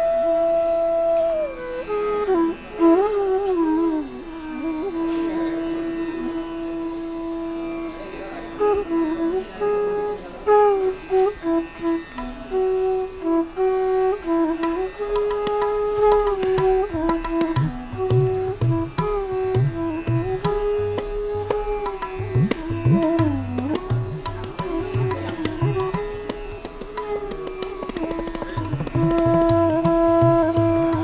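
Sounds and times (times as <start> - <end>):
tabla strokes: 0.0 - 5.8, 7.0 - 31.0.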